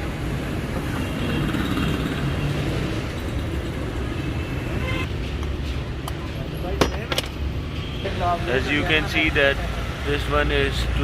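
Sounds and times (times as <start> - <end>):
motor vehicles rumbling: 0.0 - 11.0.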